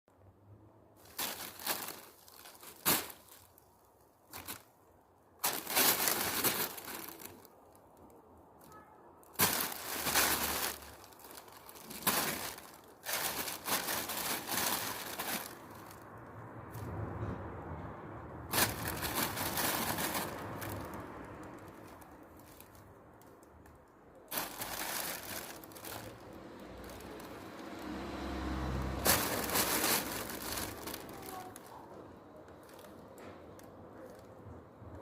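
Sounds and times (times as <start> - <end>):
crinkly material rustling: 1.0 - 17.3, 18.4 - 35.0.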